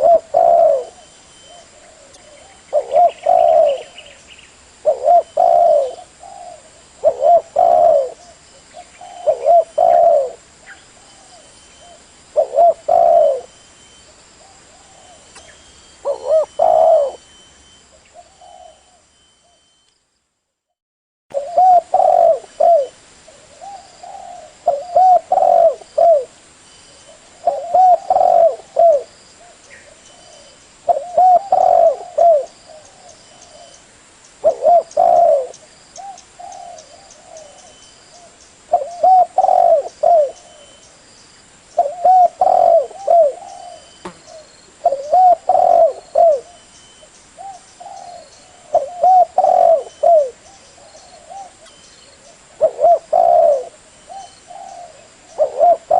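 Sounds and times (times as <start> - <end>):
dove cooing: 0.0 - 4.2, 4.8 - 13.6, 14.4 - 19.6, 21.3 - 26.4, 27.0 - 33.8, 34.4 - 40.8, 41.8 - 55.9.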